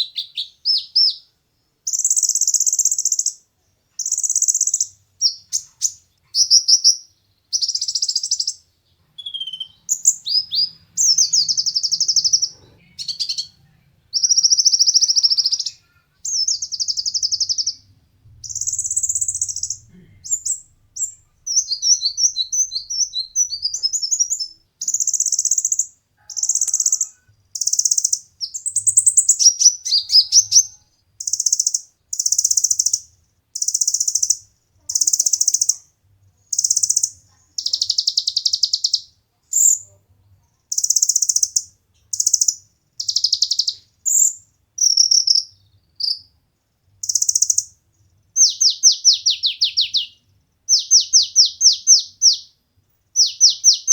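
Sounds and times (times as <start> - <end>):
sunbird singing: 0.0 - 1.3, 4.0 - 35.9, 36.5 - 39.9, 40.7 - 46.3, 47.0 - 47.8, 48.4 - 53.9.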